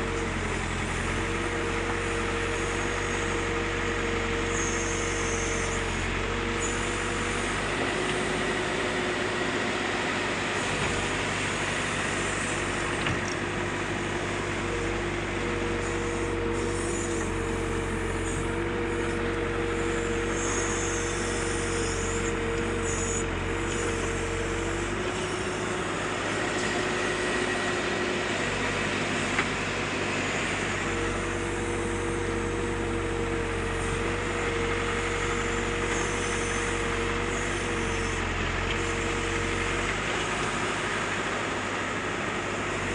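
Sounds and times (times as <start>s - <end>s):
backhoe diesel engine whining: 0.0s - 42.9s.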